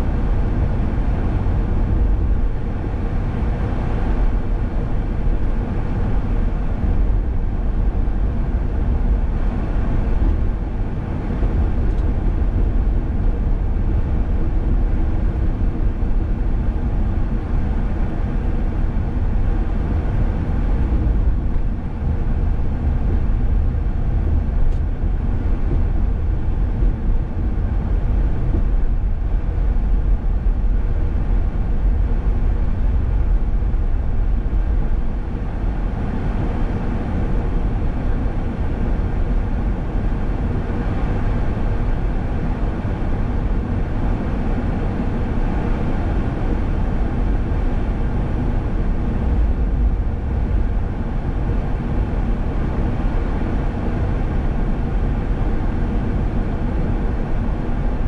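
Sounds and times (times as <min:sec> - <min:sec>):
car driving on highway: 0:00.0 - 0:58.0.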